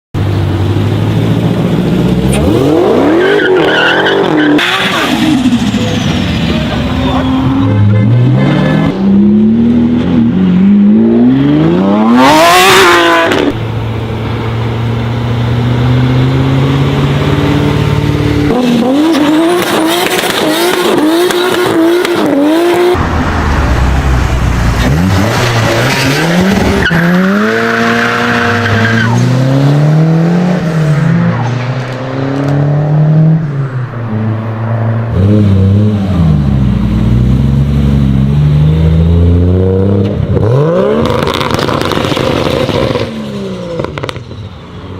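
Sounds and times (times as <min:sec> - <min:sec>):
sports car engines revving: 0:00.2 - 0:44.9.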